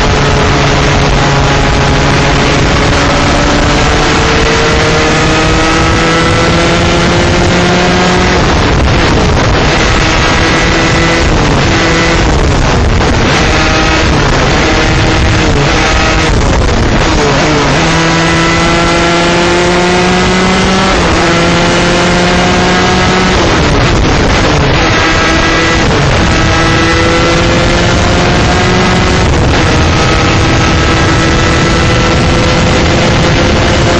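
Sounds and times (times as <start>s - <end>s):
kart engine revving through gears: 0.0s - 33.9s.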